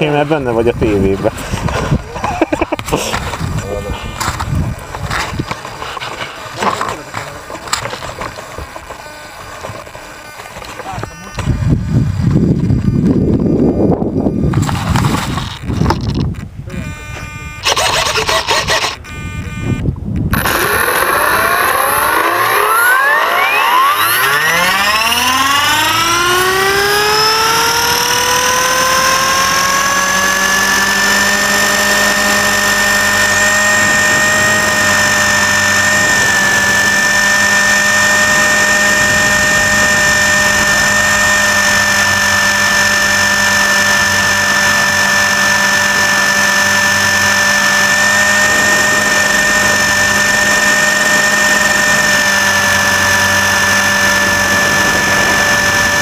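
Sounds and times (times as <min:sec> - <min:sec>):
model helicopter motor whine: 0:00.0 - 0:56.0.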